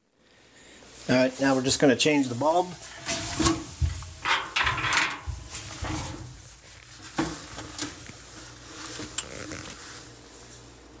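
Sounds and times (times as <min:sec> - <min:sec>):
rustling and scraping: 0:00.9 - 0:10.8.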